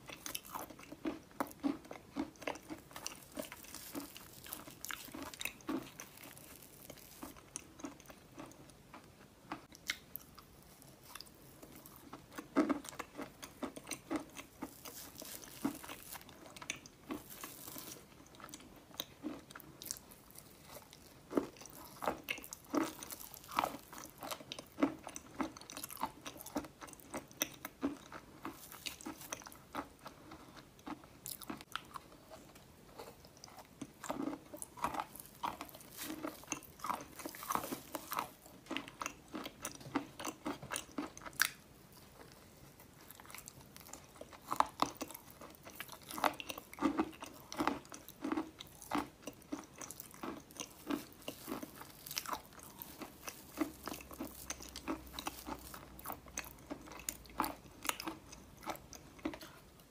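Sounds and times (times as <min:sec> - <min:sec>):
crunchy chewing of chalk: 0:00.0 - 0:59.9.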